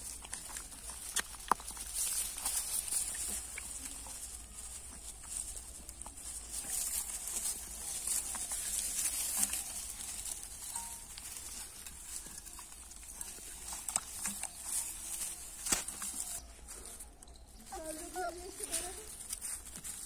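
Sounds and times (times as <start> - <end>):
puppies suckling smacking clicks: 0.0 - 16.4
dry straw rustling: 0.0 - 20.0.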